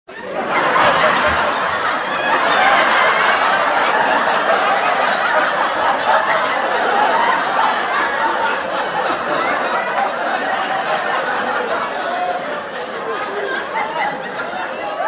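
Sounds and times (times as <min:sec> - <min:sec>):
studio audience laughing: 0:00.1 - 0:15.0.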